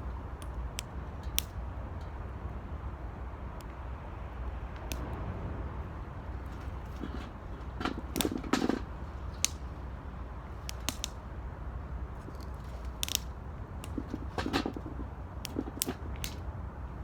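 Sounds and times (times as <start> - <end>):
low steady rumble: 0.0 - 17.0
wood fire crackling: 0.0 - 17.0.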